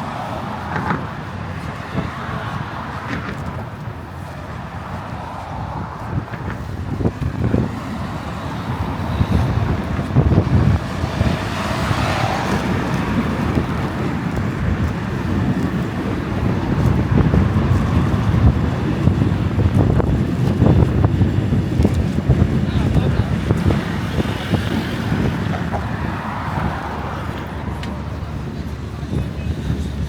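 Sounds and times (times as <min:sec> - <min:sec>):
road traffic rumble: 0:00.0 - 0:30.0
vehicle passing: 0:00.0 - 0:30.0
wind on microphone: 0:00.0 - 0:30.0.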